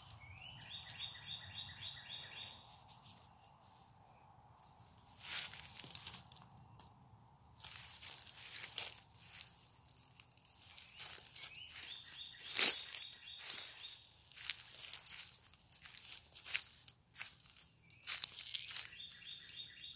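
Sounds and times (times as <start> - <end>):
dry leaves crunching underfoot: 0.0 - 4.0, 4.6 - 6.8, 7.4 - 19.9.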